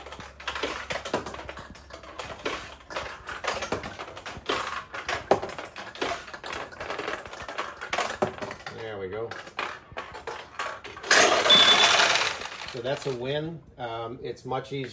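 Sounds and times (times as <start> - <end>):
steel balls rattling off pins: 0.0 - 13.4.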